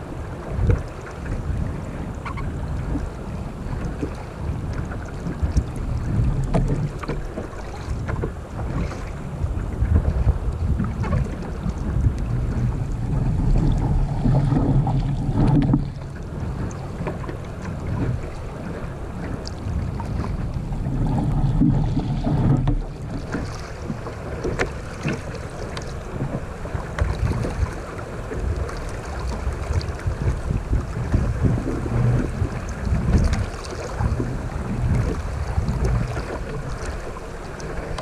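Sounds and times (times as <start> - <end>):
water splashing against a hull: 0.0 - 38.0
wind buffeting microphone: 0.0 - 38.0.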